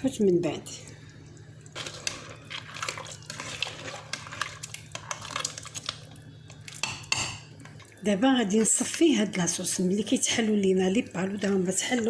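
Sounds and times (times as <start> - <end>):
liquid simmering and bubbling: 0.0 - 12.0.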